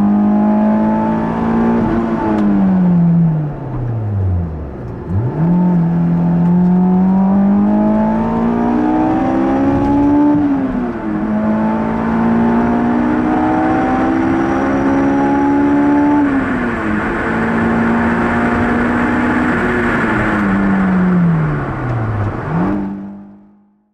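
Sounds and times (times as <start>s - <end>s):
car engine revving: 0.0s - 23.6s.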